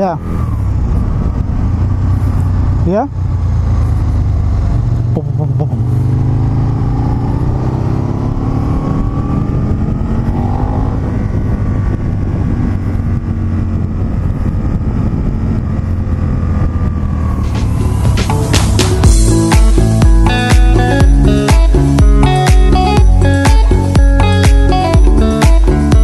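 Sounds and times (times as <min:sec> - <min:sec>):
wind noise: 0:00.0 - 0:05.1, 0:05.8 - 0:26.0
motorcycle engine accelerating: 0:00.0 - 0:26.0.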